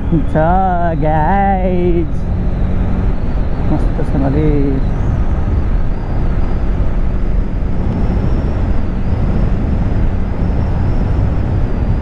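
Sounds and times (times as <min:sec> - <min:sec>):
motorcycle engine: 0:00.0 - 0:12.0
wind rumble on microphone: 0:00.0 - 0:12.0.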